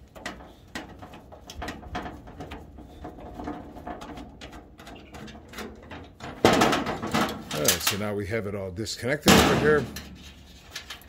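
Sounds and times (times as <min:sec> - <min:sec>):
loose wires rattling: 0:00.0 - 0:08.3, 0:09.2 - 0:11.0.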